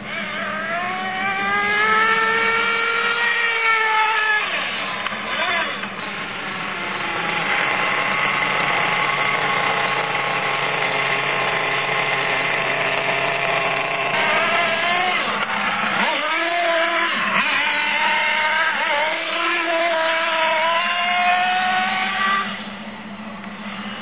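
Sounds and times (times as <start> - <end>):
rc car engine buzzing and revving: 0.0 - 24.0.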